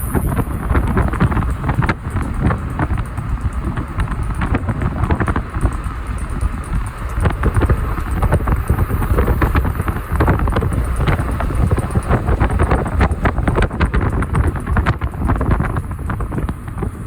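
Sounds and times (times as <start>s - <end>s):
irregular clicking and knocking: 0.0s - 17.0s
vehicle engine rumble: 0.0s - 17.0s.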